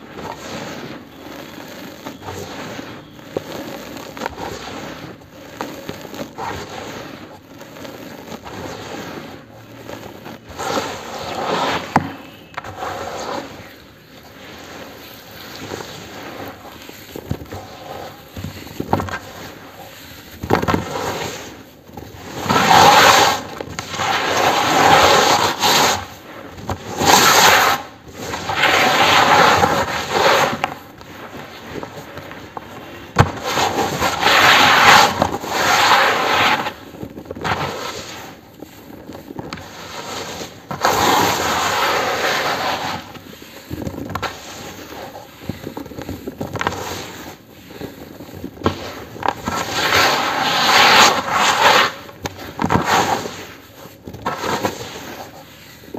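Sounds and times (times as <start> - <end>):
hand crushing dried cement lumps: 0.0 - 55.9.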